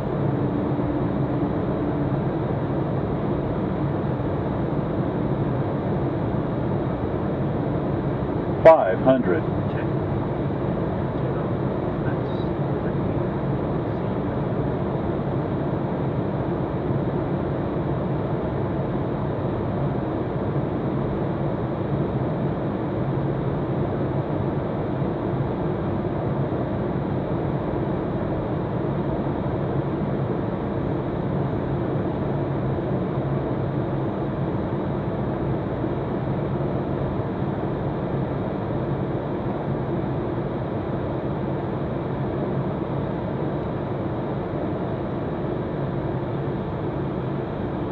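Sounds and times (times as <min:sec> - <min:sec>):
jet engine hum: 0:00.0 - 0:47.9.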